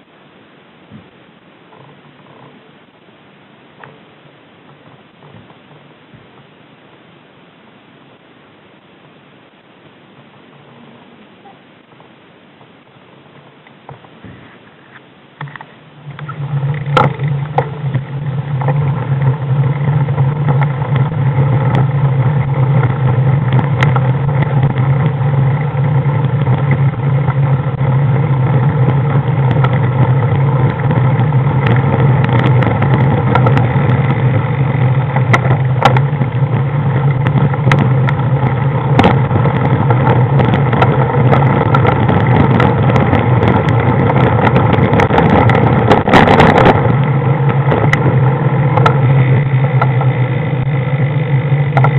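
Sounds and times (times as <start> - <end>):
road vehicle engine running: 9.4 - 51.9.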